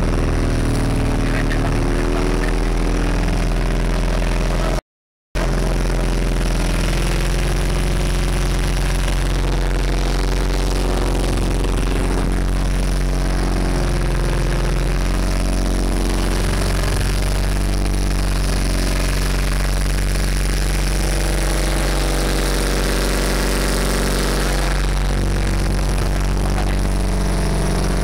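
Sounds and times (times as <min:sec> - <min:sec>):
boat engine droning: 0:00.0 - 0:04.8, 0:05.4 - 0:28.0.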